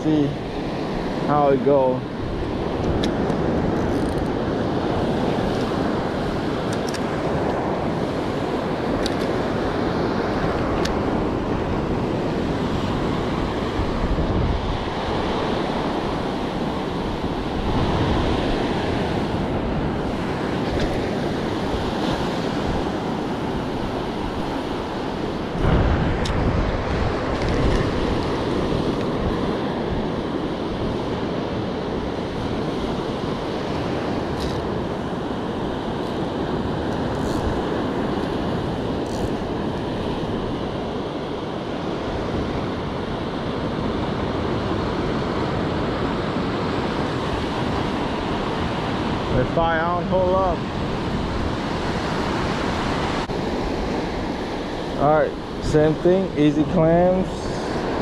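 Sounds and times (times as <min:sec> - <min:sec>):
surf breaking on beach: 0:00.0 - 0:58.0
wind buffeting microphone: 0:00.0 - 0:58.0.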